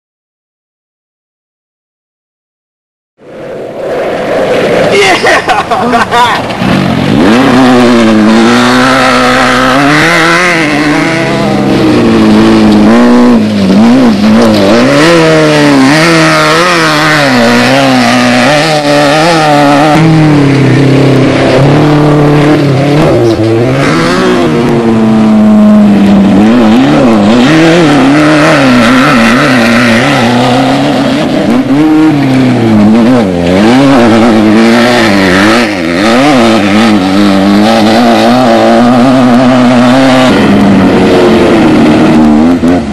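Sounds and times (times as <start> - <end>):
race vehicle engine revving: 4.6 - 42.9.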